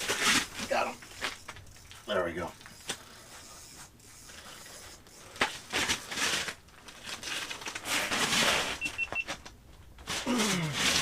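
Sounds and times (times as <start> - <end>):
rustling crinkling handling noises: 0.0 - 11.0.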